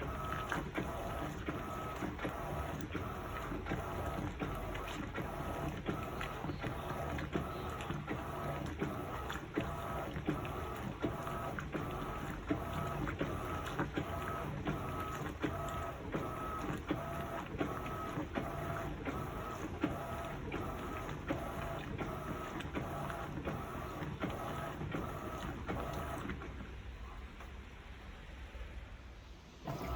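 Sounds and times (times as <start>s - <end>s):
washing machine motor whine: 0.0s - 26.7s, 29.5s - 29.9s.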